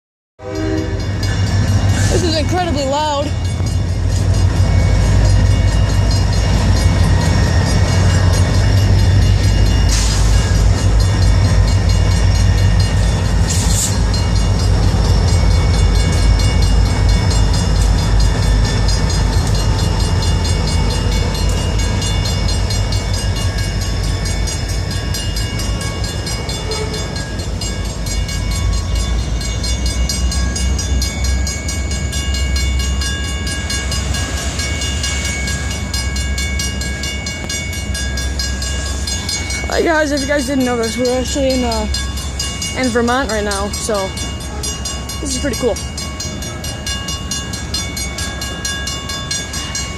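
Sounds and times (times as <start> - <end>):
train rumbling past: 0.4 - 49.9.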